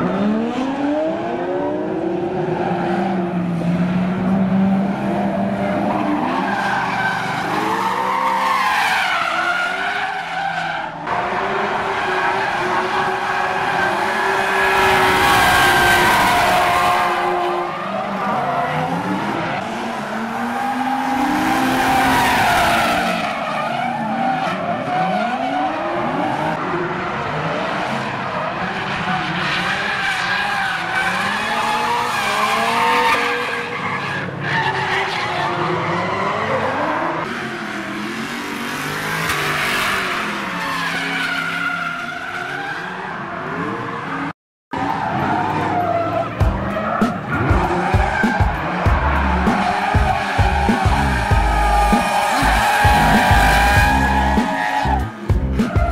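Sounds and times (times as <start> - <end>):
car engines revving: 0.0 - 55.9
tyres squealing and skidding: 5.0 - 26.6, 27.8 - 55.9.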